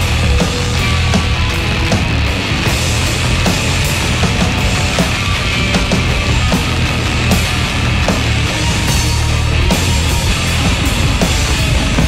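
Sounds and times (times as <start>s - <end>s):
instrumental rock band: 0.0s - 12.0s.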